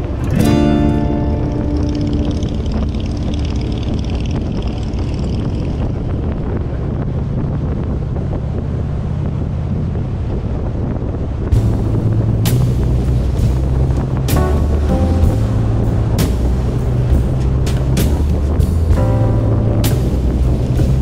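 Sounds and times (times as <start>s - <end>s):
motorcycle engine rumble: 0.0s - 21.0s
wind rushing over microphone: 0.0s - 21.0s.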